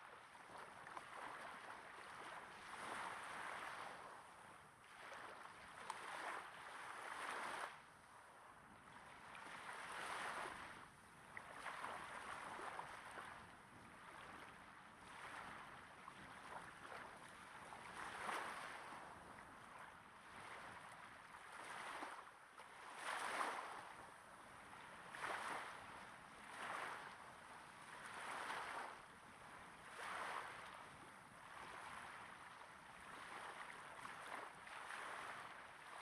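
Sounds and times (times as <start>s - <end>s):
small waves lapping on sand: 0.0s - 36.0s.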